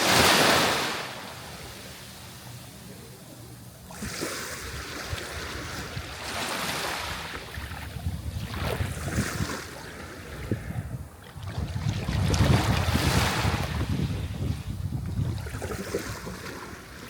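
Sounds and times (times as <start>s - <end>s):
sea waves breaking ashore: 0.0s - 14.6s.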